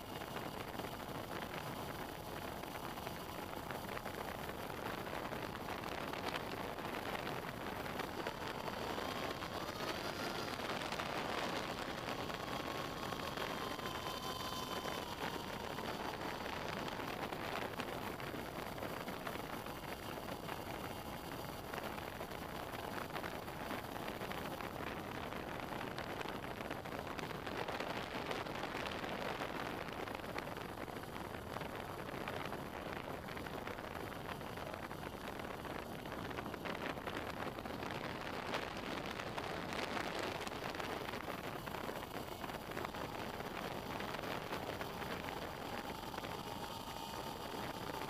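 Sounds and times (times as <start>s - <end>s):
faint motor whine: 0.0s - 48.0s
propeller noise: 0.0s - 48.0s
wind rush: 0.0s - 48.0s.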